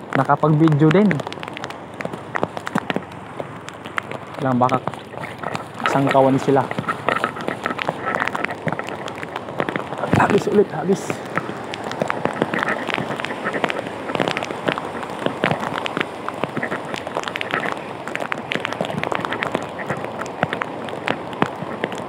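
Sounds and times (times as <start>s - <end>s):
small crackling splashes: 0.0s - 22.0s
surf washing in shallows: 0.0s - 22.0s.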